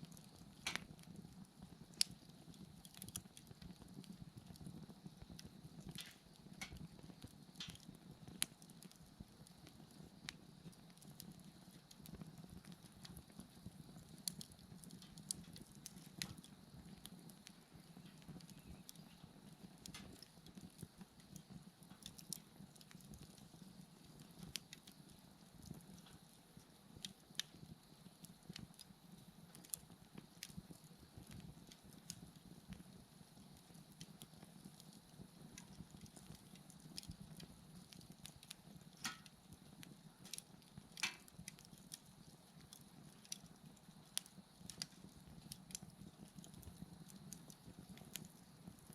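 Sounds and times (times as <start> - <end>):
bonfire crackling: 0.0 - 48.9.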